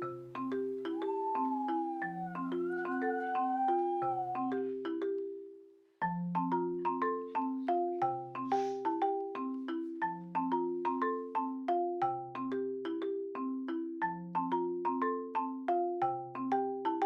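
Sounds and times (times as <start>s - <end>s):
mallet percussion tune: 0.0s - 17.0s.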